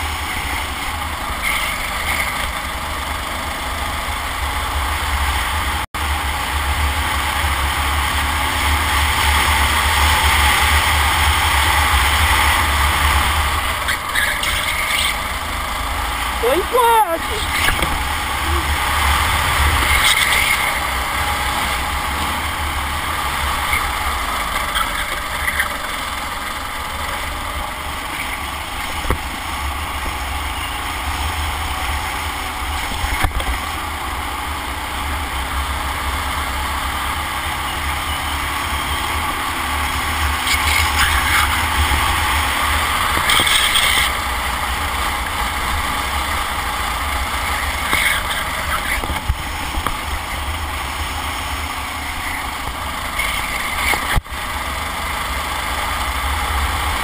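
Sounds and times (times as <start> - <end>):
kart engine running: 0.0 - 57.0.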